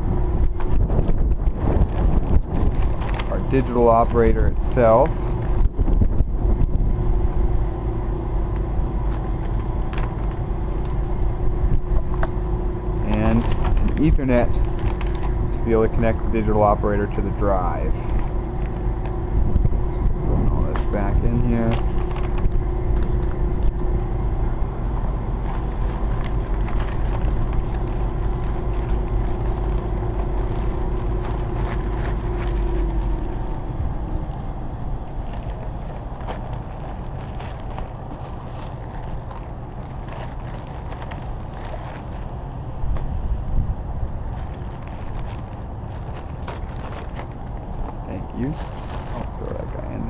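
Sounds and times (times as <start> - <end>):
machine hum: 0.0 - 50.0
plastic and paper crinkling: 0.5 - 5.7, 8.5 - 11.3, 12.9 - 19.7, 20.3 - 24.1, 25.4 - 43.2, 44.0 - 50.0.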